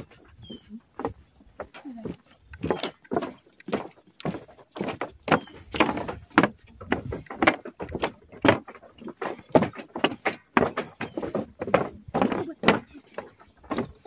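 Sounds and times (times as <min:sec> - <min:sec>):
footsteps on wooden boardwalk: 0:00.0 - 0:14.0.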